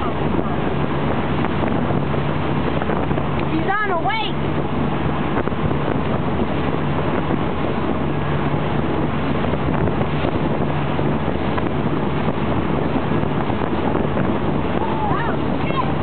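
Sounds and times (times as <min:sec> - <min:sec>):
motorboat engine drone: 0:00.0 - 0:16.0
wake rushing: 0:00.0 - 0:16.0
wind buffeting microphone: 0:00.0 - 0:16.0.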